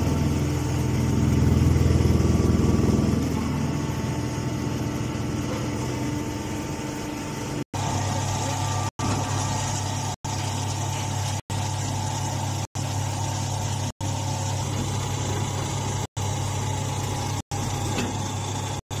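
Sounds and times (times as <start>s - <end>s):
hydraulic pump motor droning: 0.0s - 19.0s.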